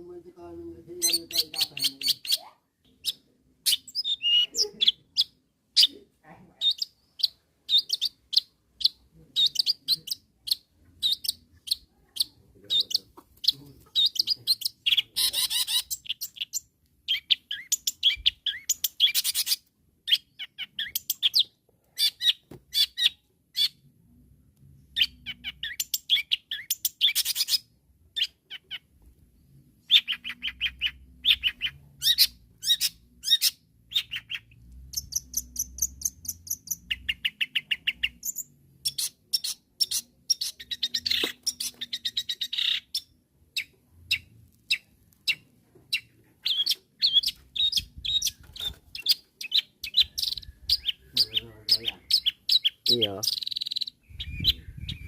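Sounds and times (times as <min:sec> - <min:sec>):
bird singing chattering phrases: 0:00.8 - 0:23.8, 0:25.0 - 0:28.9, 0:29.9 - 0:55.0.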